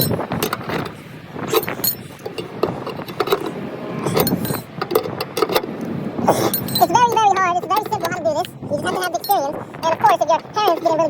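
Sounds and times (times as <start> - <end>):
scissor jack cranking clicks: 0.0 - 9.4.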